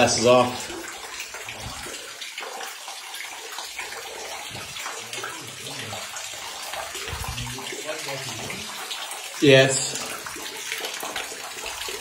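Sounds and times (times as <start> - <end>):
steady water hiss: 0.0 - 12.0
water sloshing and splashing: 0.0 - 12.0.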